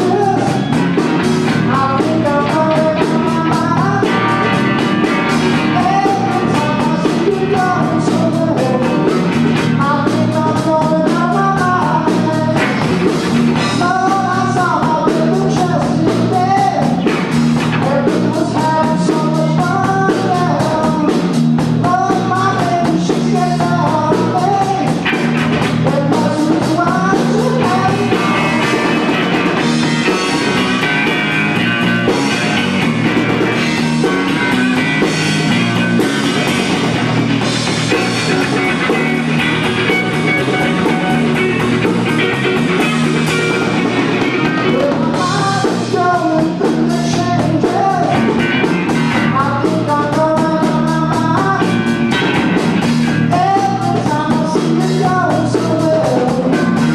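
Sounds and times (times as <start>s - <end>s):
drum kit: 0.0s - 56.9s
electric guitar: 0.0s - 56.9s
person singing: 0.0s - 56.9s.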